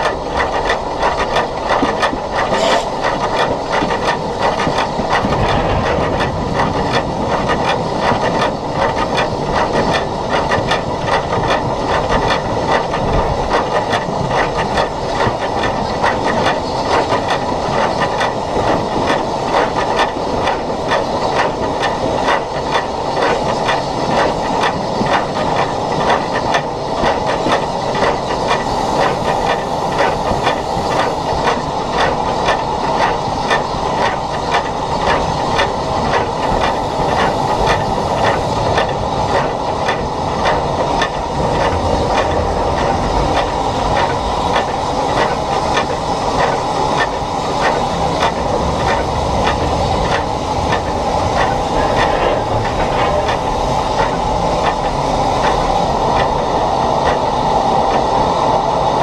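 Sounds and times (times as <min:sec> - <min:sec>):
steam hissing: 0:00.0 - 0:59.0
steam locomotive running: 0:00.0 - 0:59.0.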